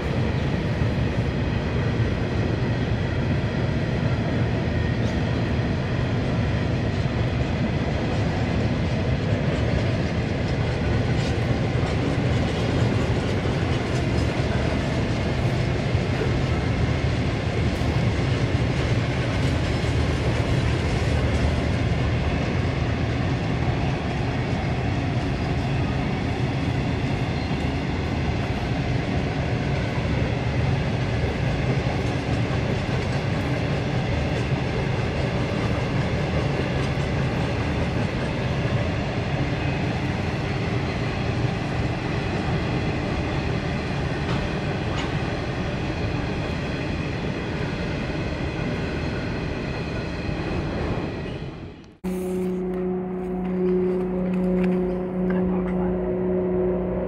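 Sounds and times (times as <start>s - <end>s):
freight train rumbling over bridge: 0.0s - 57.0s.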